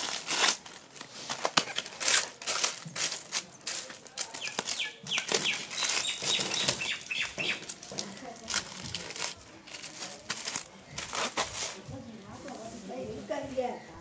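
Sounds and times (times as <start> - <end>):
plastic film crinkling: 0.0 - 13.4.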